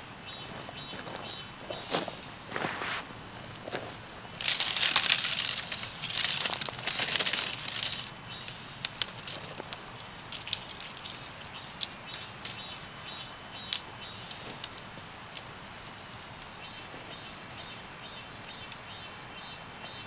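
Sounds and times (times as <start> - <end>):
loud rustling and crinkling: 0.5 - 17.1.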